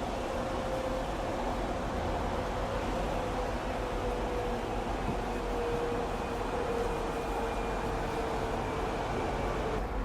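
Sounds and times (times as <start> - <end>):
faint train whine: 0.0 - 10.0
subway train rumble and hiss: 0.0 - 10.0.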